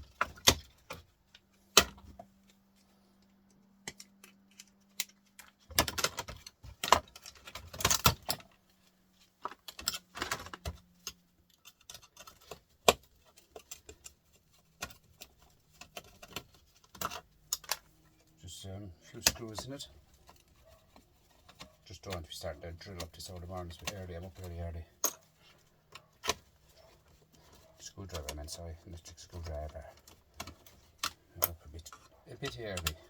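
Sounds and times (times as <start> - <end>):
tv parts clinking and clattering: 3.4 - 8.6, 9.2 - 33.0.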